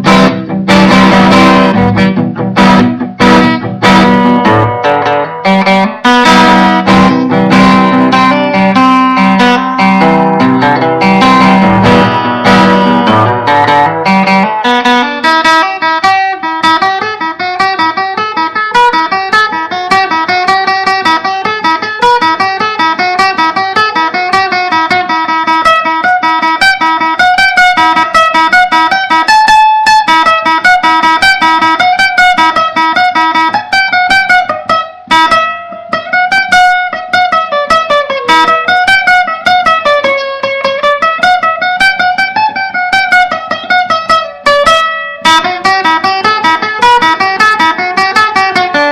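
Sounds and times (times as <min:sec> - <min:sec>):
guitar fast picked notes: 0:00.0 - 0:48.9.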